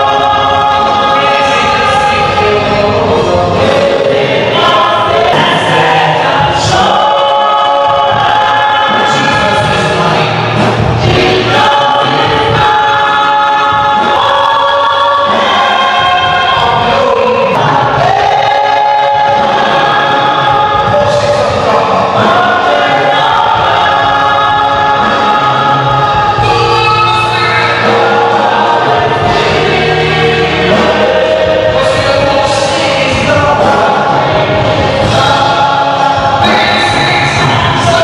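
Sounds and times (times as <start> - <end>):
choir singing gospel: 0.0 - 38.0.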